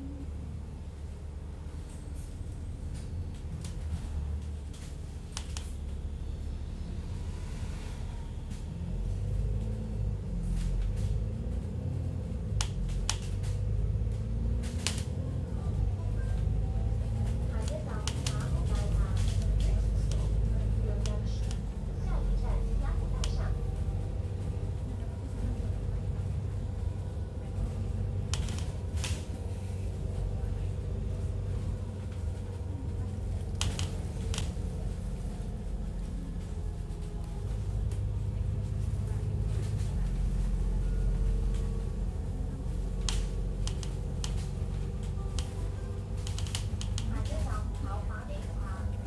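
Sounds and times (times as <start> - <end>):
vehicle rumble inside cabin: 0.0 - 49.0.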